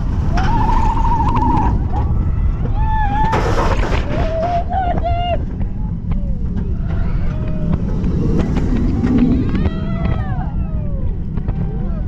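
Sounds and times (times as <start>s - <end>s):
wind rushing over microphone: 0.0s - 12.0s
riders screaming and yelling: 0.2s - 12.0s.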